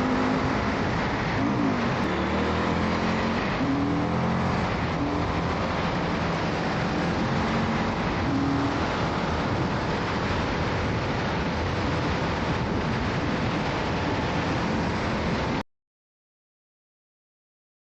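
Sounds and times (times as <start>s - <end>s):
wind noise on microphone: 0.0s - 15.6s.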